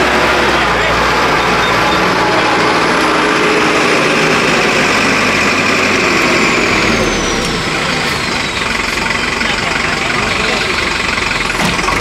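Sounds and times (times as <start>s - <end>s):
lorry diesel engine drone: 0.0s - 12.0s.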